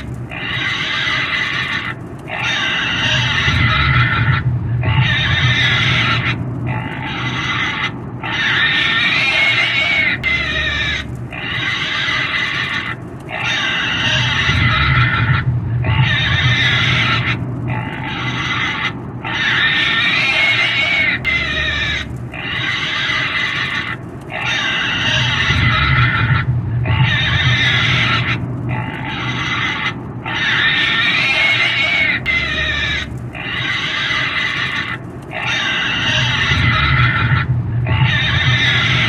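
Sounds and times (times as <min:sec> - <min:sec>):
low rumble: 0:00.0 - 0:39.0
pig squealing: 0:00.0 - 0:39.0.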